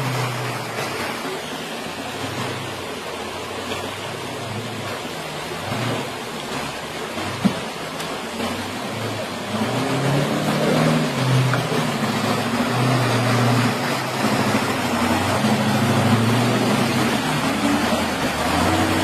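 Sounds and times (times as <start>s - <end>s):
creek water rushing: 0.0s - 19.0s
engine revving unevenly: 0.0s - 19.0s.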